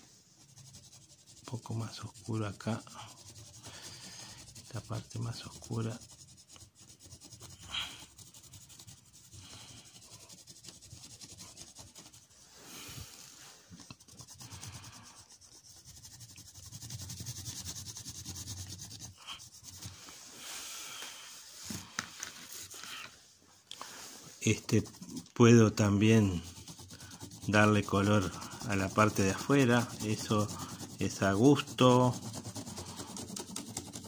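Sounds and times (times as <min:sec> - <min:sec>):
pencil rubbing on paper: 0:00.0 - 0:23.2, 0:23.9 - 0:34.0.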